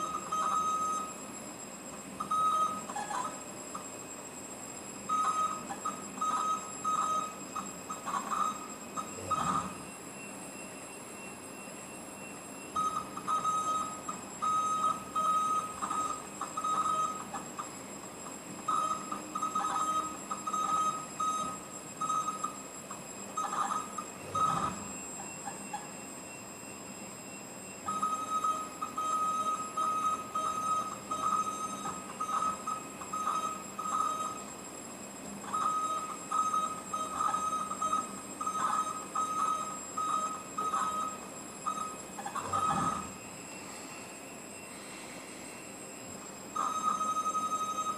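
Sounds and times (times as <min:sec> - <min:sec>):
machine axis drives whining: 0:00.0 - 0:34.9, 0:35.6 - 0:47.7.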